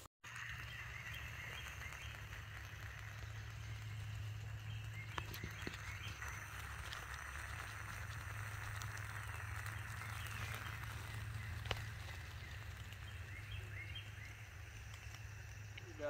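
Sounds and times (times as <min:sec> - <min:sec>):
alcohol stove hissing: 0:00.2 - 0:16.0
small animals chirping: 0:00.3 - 0:16.0.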